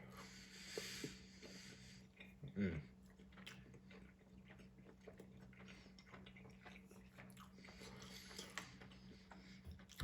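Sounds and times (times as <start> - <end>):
person chewing food: 0.7 - 10.0.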